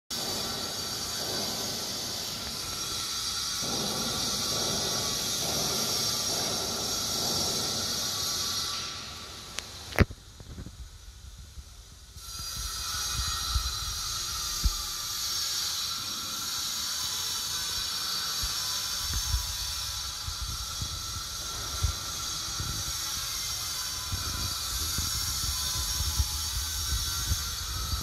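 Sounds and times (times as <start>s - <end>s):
steady hiss: 0.2s - 28.0s.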